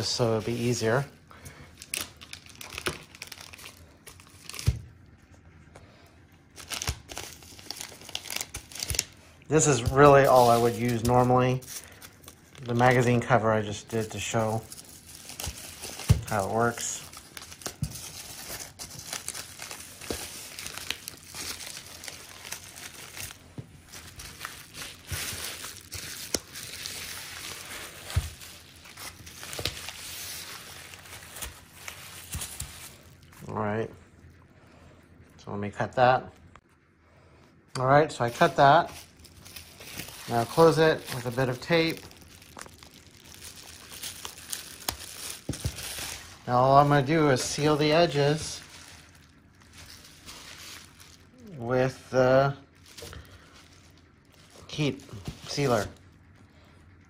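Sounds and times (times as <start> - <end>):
bubble wrap crinkling: 0.0 - 5.6, 6.4 - 33.6, 38.1 - 57.0.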